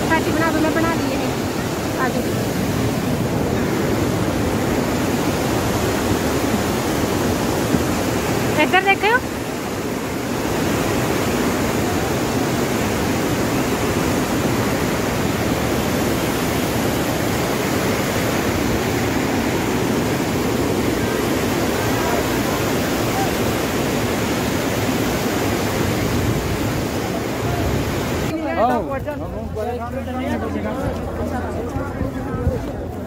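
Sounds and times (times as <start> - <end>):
river rushing over boulders: 0.0 - 28.8.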